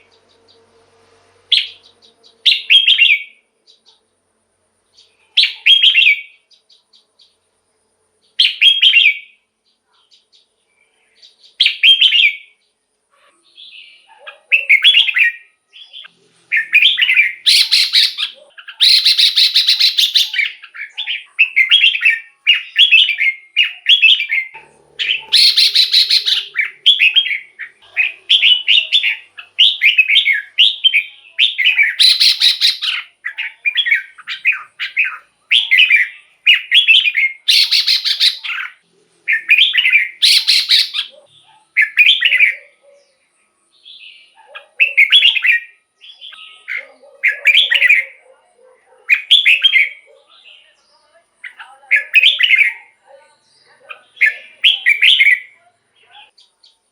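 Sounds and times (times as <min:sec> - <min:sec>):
bird singing: 0:00.0 - 0:04.2, 0:04.8 - 0:56.9.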